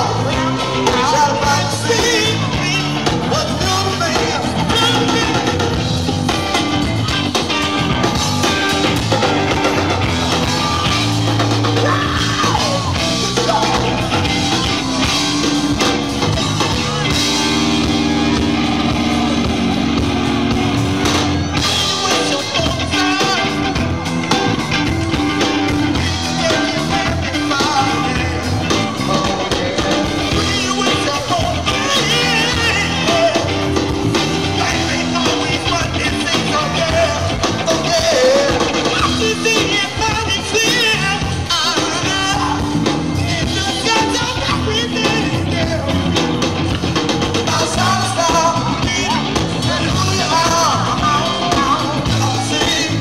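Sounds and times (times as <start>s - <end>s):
live blues-rock band playing: 0.0s - 53.0s.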